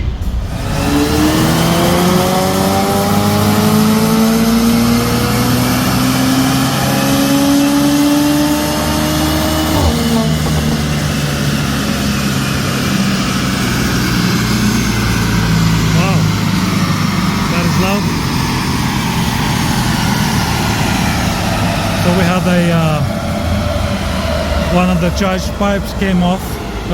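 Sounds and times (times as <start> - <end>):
car engine revving at full throttle: 0.0 - 26.9.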